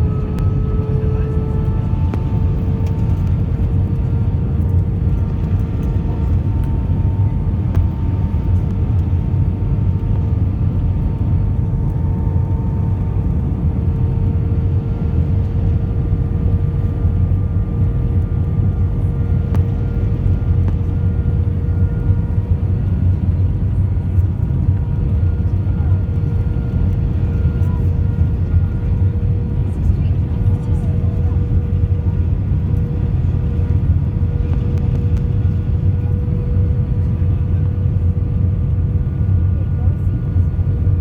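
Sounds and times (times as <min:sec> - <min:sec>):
jet engine cabin drone: 0:00.0 - 0:41.0.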